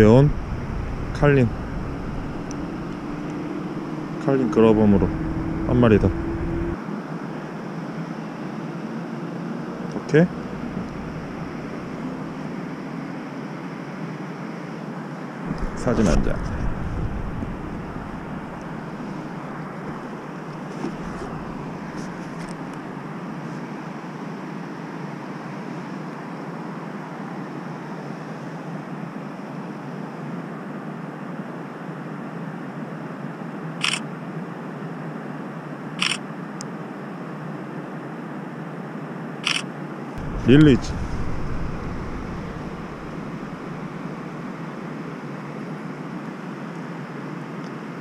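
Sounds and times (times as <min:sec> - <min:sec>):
outdoor background hiss and rumble: 0:00.0 - 0:48.0.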